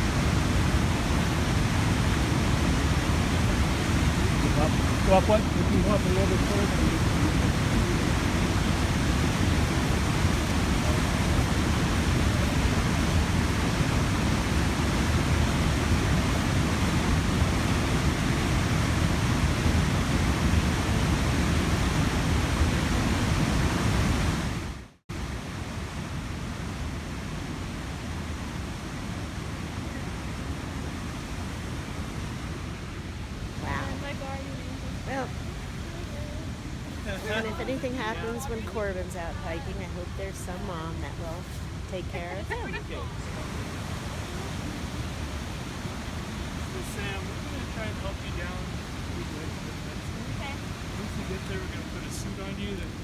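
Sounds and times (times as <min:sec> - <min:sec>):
waterfall roaring: 0:00.0 - 0:53.0.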